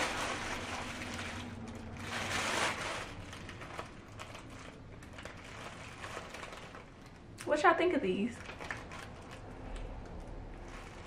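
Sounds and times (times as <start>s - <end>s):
paper packaging rustling: 0.0s - 7.4s, 8.2s - 11.0s.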